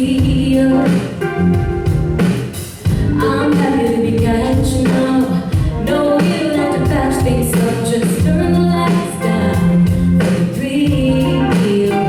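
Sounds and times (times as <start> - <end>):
instrumental accompaniment: 0.0 - 12.0.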